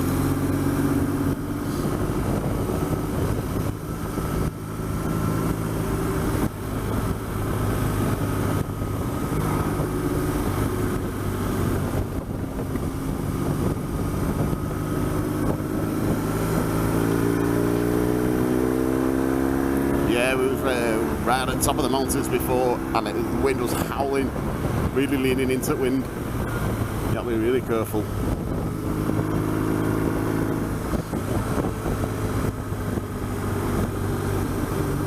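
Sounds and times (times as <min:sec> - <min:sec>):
motorcycle engine running: 0:00.0 - 0:35.0
wind and road rush: 0:00.0 - 0:35.0.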